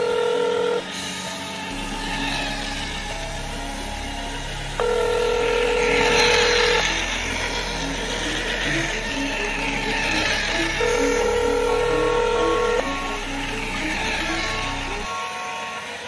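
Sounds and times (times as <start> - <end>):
electronic beeping tune: 0.0 - 15.6.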